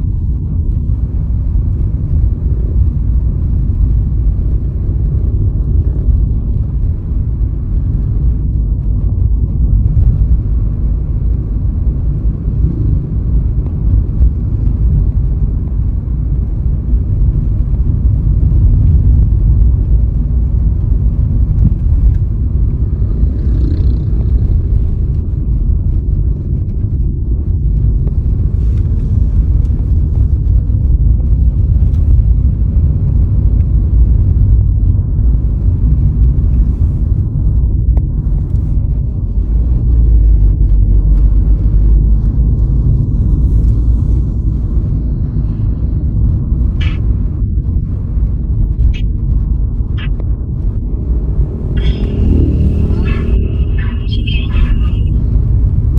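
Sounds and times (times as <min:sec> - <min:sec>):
car road rumble: 0:00.0 - 0:55.9.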